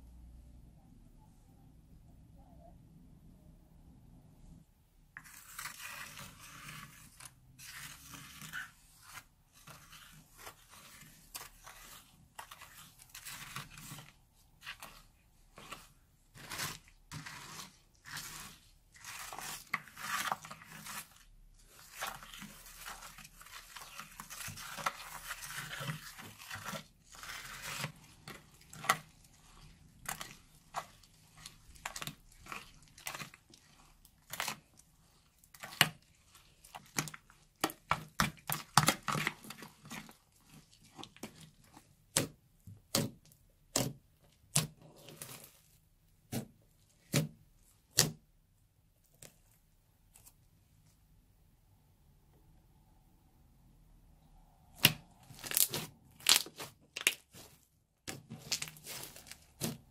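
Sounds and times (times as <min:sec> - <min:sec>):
spoon stirring squelching slime: 0:04.5 - 0:51.2, 0:54.2 - 0:59.9
hands kneading slime: 0:05.1 - 0:51.4, 0:54.5 - 0:59.9.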